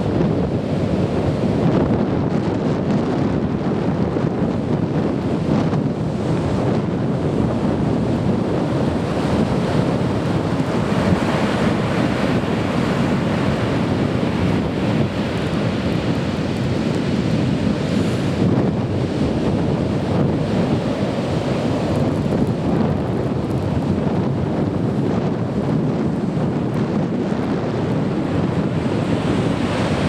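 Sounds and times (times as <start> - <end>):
heavy surf breaking and rumbling: 0.0 - 30.0
wind buffeting microphone: 0.0 - 30.0.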